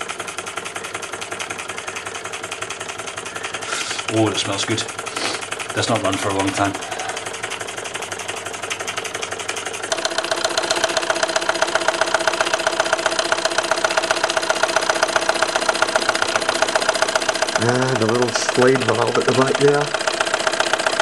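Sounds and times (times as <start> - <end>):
toy steam engine beating: 0.0 - 21.0.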